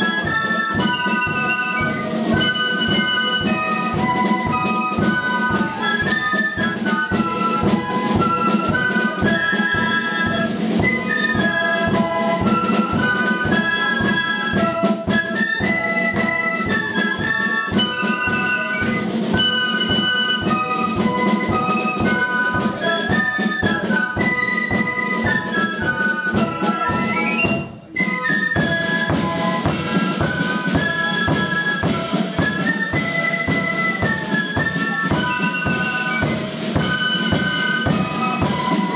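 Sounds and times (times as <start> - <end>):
flutes playing melody: 0.0 - 38.9
rapid snare drumming: 0.0 - 38.9.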